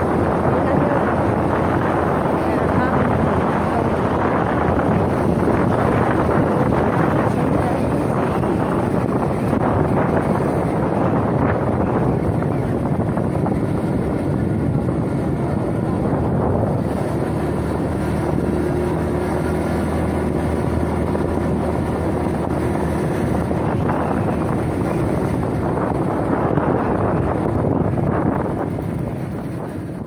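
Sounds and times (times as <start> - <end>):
motorcycle engine hum: 0.0 - 30.0
wind buffeting microphone: 0.0 - 30.0.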